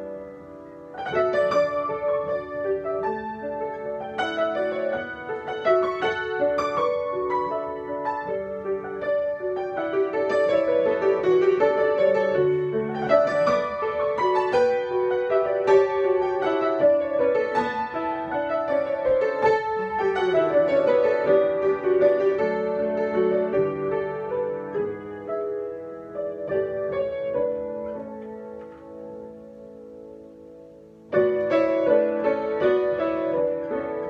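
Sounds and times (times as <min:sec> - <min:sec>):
solo piano improvisation: 0:00.0 - 0:34.0.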